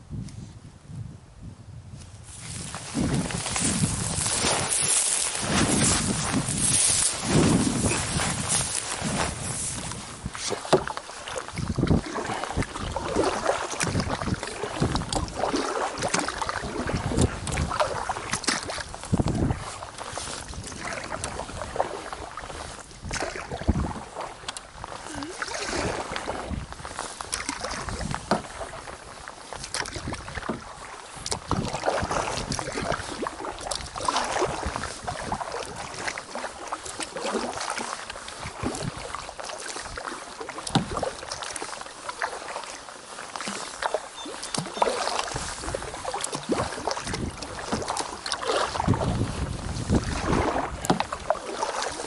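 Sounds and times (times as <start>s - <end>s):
paddle strokes in water: 1.9s - 52.0s
water splashes and drips: 2.5s - 52.0s.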